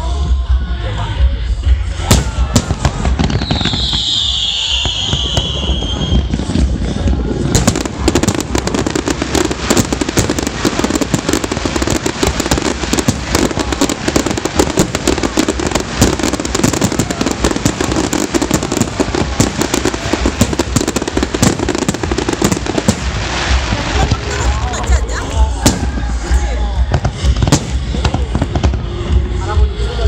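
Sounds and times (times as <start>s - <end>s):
fireworks bangs: 2.0s - 29.7s.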